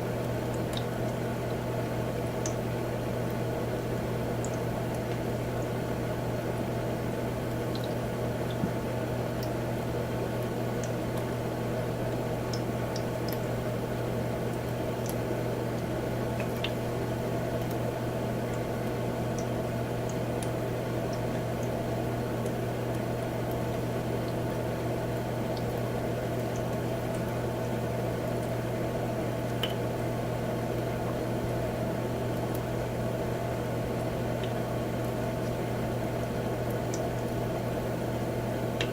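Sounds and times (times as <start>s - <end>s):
humidifier hum: 0.0s - 38.9s.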